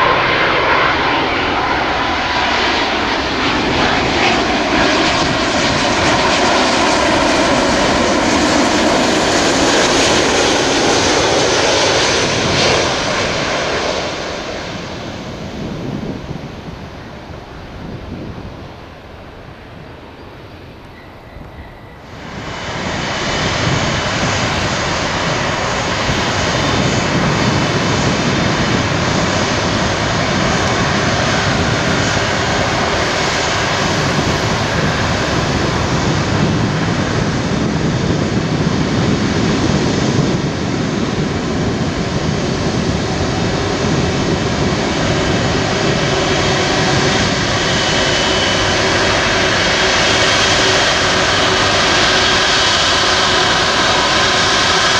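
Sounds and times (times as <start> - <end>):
jet engines at taxi power: 0.0 - 54.9.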